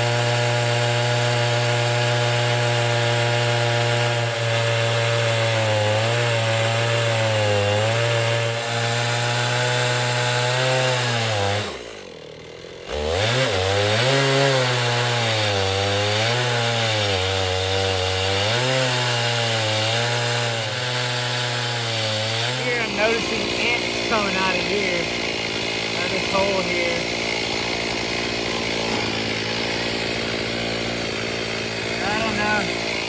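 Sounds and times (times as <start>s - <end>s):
chainsaw cutting log: 0.0s - 33.0s.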